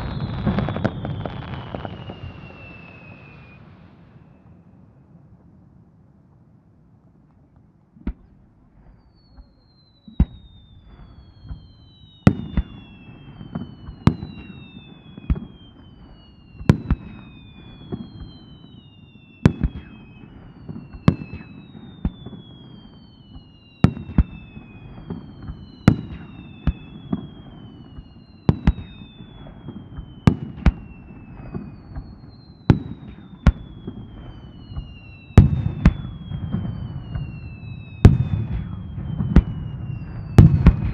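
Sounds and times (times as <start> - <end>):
falling firework whistles: 0.0 - 5.1, 8.1 - 40.9.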